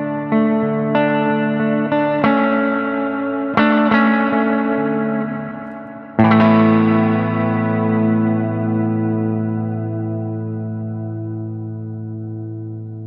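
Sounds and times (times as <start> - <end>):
electric guitar chords with reverb: 0.0 - 13.0.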